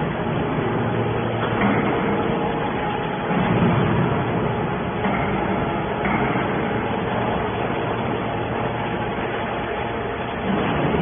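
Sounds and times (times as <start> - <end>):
hydraulic pump and motor humming: 0.0 - 11.0.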